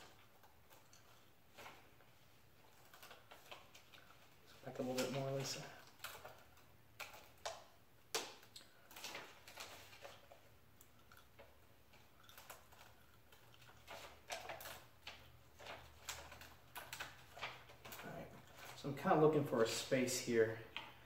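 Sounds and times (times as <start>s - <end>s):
paper backing peeling crackles: 0.0s - 20.3s.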